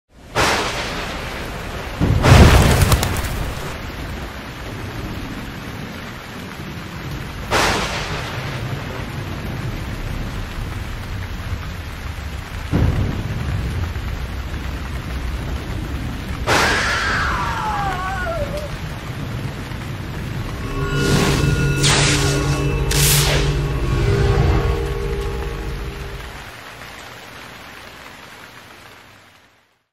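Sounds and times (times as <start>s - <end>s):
steady hiss of rain: 0.1s - 29.9s
thunder claps: 0.3s - 27.0s.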